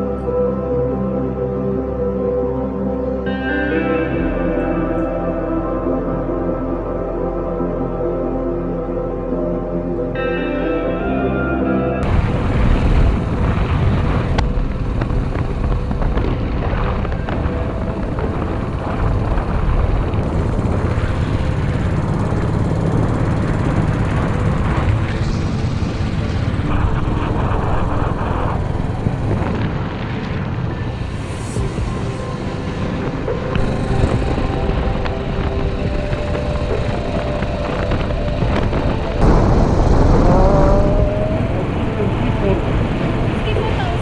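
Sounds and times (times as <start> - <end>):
motorcycle engine and travel noise: 0.0 - 44.0.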